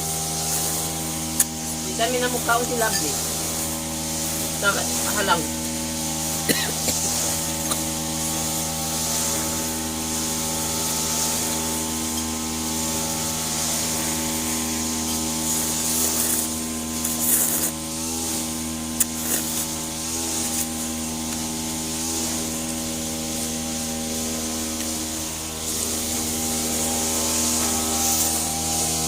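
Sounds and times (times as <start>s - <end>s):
even hiss: 0.0s - 29.0s
machine hum: 0.0s - 29.0s.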